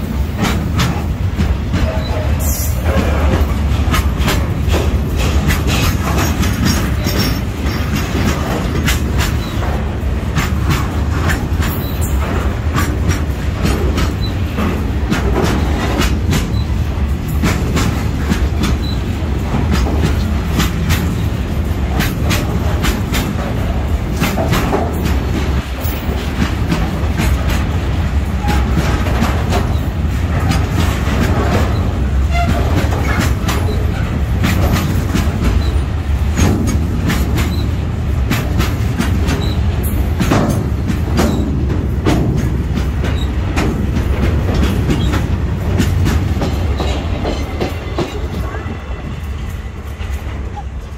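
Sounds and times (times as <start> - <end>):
freight train rumbling past: 0.0 - 50.9
wheels clacking over rail joints: 0.0 - 50.9.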